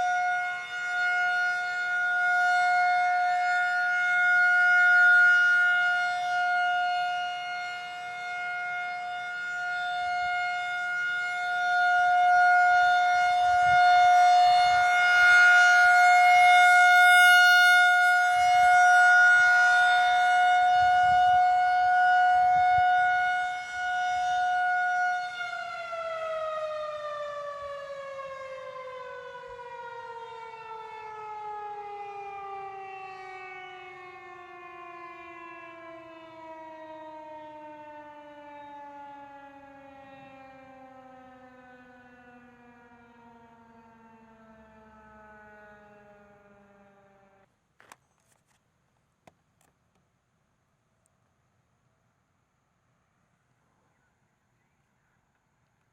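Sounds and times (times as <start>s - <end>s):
rotating warning siren: 0.0s - 48.4s.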